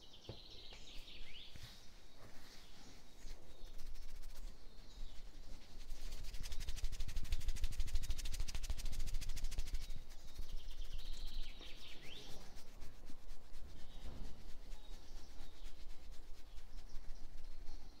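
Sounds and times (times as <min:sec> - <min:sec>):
birds chirping: 0:00.0 - 0:07.5, 0:09.2 - 0:18.0
hands rubbing skin: 0:00.8 - 0:18.0.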